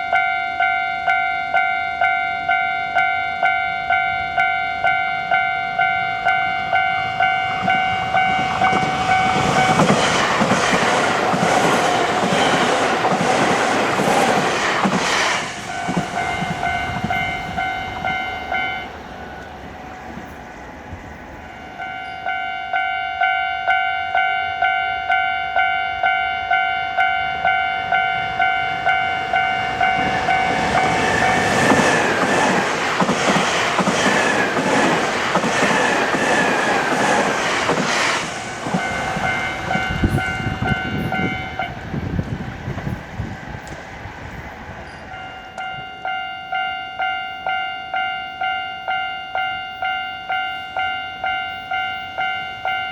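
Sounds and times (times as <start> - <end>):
level-crossing warning bell ringing: 0.0 - 14.5, 15.5 - 20.4, 21.3 - 41.8, 44.9 - 52.9
train clattering over crossing: 0.0 - 52.9.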